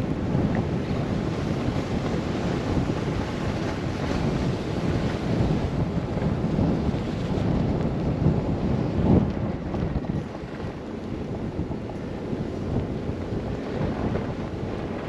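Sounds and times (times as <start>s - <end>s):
wind gusting against microphone: 0.0s - 15.0s.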